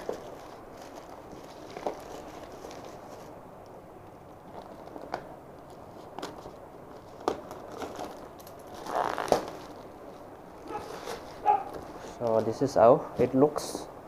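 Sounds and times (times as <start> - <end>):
packaging crinkling and rustling: 0.0 - 3.4, 4.4 - 12.7.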